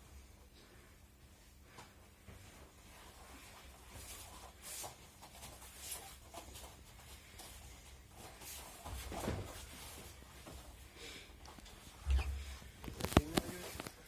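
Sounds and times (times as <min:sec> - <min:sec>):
faint rustling: 0:00.6 - 0:14.0.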